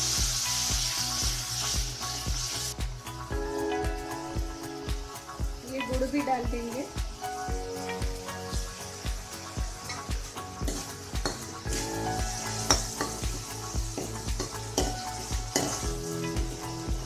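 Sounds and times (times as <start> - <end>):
background music with beat: 0.0 - 17.0
sauce sizzling: 0.0 - 17.0.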